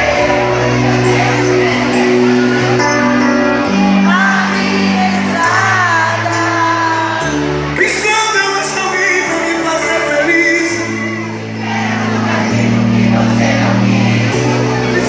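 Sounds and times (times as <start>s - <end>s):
live band music: 0.0s - 15.0s
person singing with vibrato: 0.0s - 15.0s.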